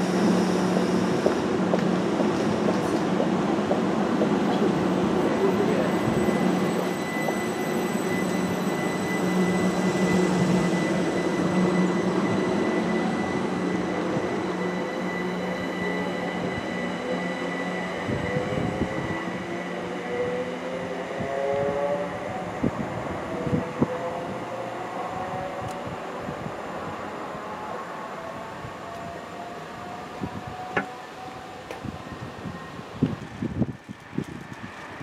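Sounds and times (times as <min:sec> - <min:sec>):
electric train hum and whine: 0:00.0 - 0:35.0.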